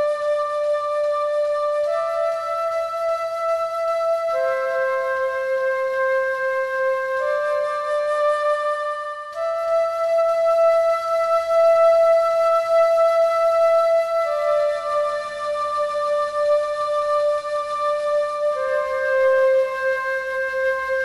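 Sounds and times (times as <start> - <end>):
slow melody of held notes: 0.0 - 21.0.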